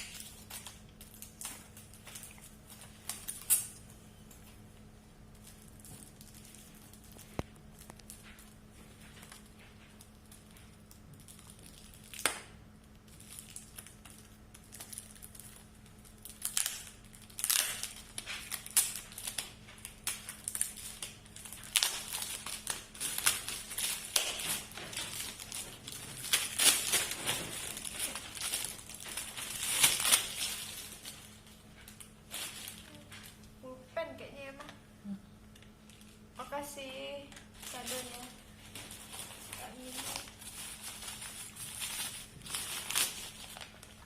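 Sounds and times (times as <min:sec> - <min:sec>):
sharp paper crackle: 0:00.0 - 0:03.8, 0:05.3 - 0:33.4, 0:37.2 - 0:44.0
wrapping paper crinkling: 0:00.0 - 0:33.6, 0:35.5 - 0:44.0.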